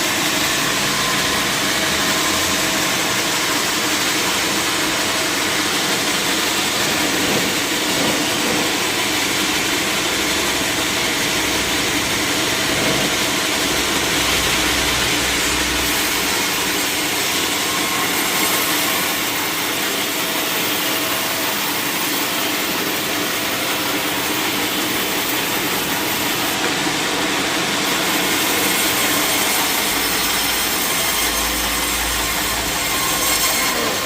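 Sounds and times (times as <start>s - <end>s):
sawmill saw cutting log: 0.0s - 34.0s.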